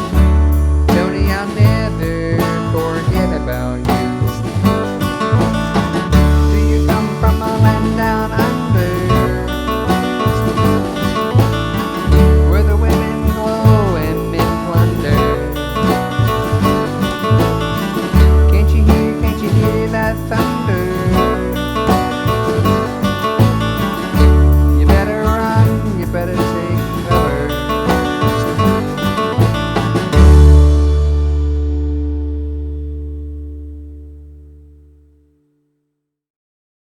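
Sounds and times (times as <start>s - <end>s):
steady drum beat: 0.0s - 33.1s
guitars with bending lead lines: 0.0s - 35.0s
bass: 0.0s - 35.4s.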